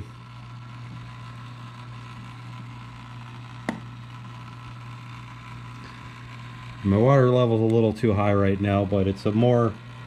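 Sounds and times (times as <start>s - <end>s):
aquarium pump humming: 0.0s - 10.0s.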